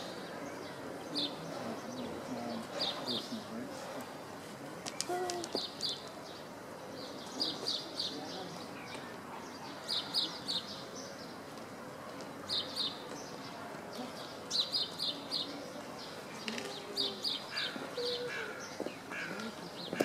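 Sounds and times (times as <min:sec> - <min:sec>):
small birds chirping: 0:00.0 - 0:04.1, 0:04.8 - 0:20.0
background murmur: 0:00.0 - 0:20.0.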